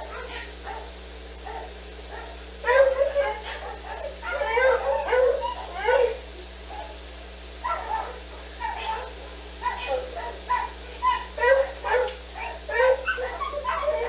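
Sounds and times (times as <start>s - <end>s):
dog whining and yipping: 0.0s - 7.0s, 7.6s - 14.0s.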